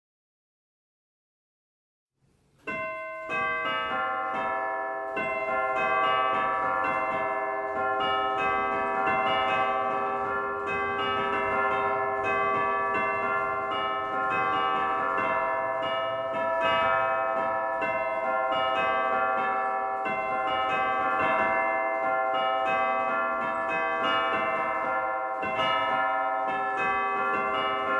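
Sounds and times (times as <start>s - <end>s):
church bells pealing: 2.6s - 27.9s.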